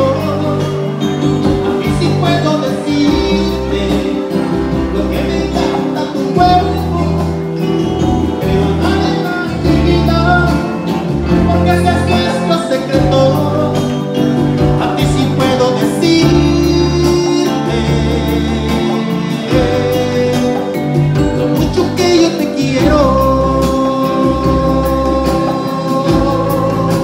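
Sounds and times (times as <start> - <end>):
electronic keyboard music: 0.0 - 27.0.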